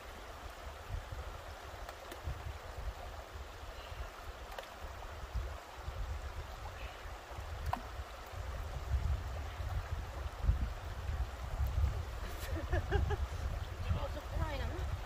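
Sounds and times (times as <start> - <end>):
river rushing over stones: 0.0 - 15.0.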